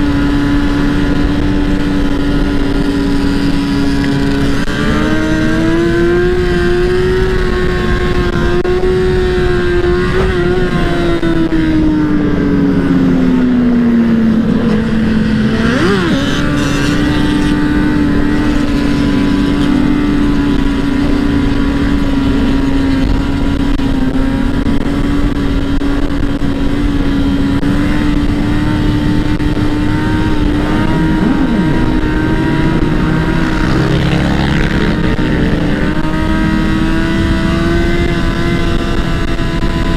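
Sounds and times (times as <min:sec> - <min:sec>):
dirt bike engine cruising: 0:00.0 - 0:39.9.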